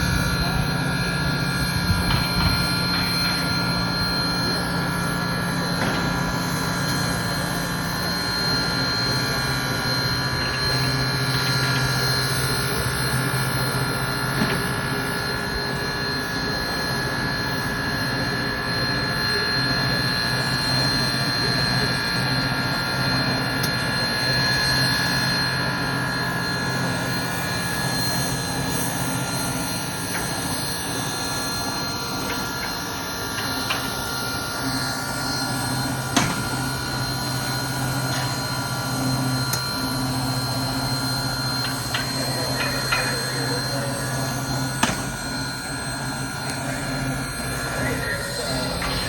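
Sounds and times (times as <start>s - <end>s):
machinery drone with high whine: 0.0s - 49.0s.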